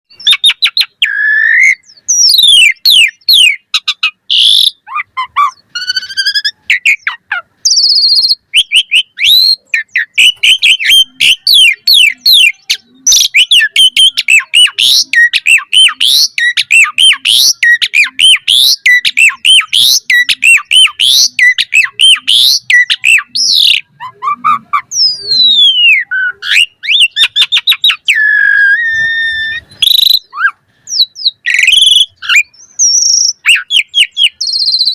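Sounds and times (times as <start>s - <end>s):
starling singing whistles and chatter: 0.1s - 34.9s.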